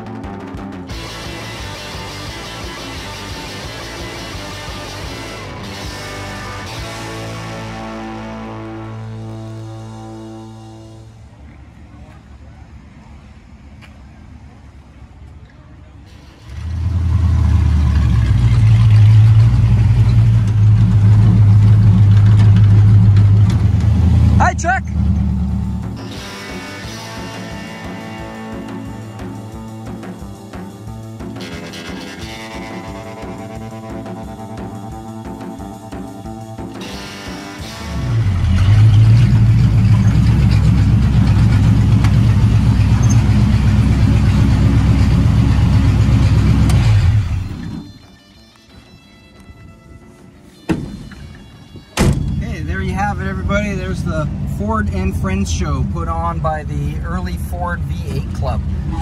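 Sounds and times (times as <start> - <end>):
car engine droning at low speed: 0.5 - 48.0, 52.0 - 59.0.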